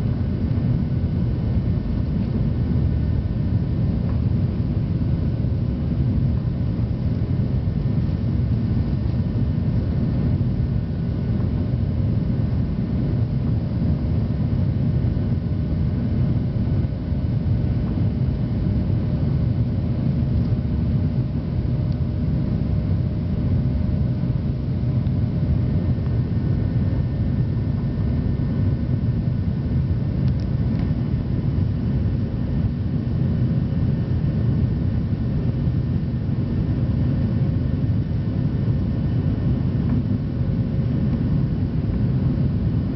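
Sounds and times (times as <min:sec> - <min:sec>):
airliner engine rumble in cabin: 0:00.0 - 0:42.9.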